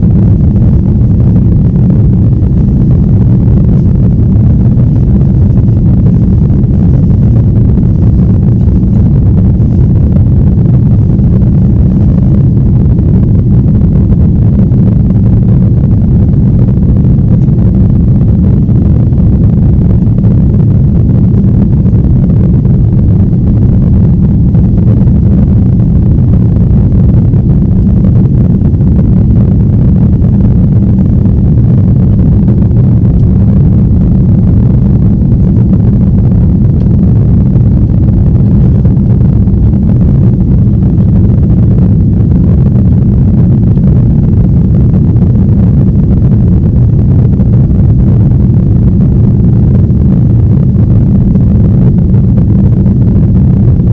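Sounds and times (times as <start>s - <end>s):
airliner cabin roar: 0.0s - 46.8s.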